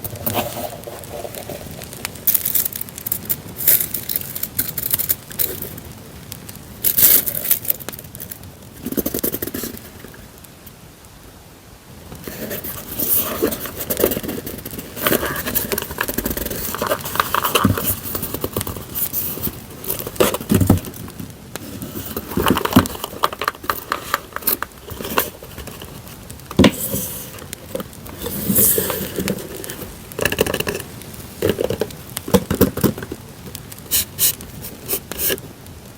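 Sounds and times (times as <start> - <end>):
packaging crinkling and tearing: 0.0 - 10.4, 12.2 - 35.7
campfire crackling: 0.0 - 35.9.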